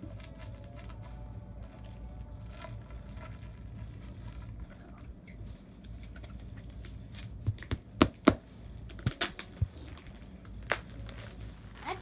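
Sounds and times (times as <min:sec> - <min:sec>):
package scratching and rustling: 0:00.0 - 0:12.0.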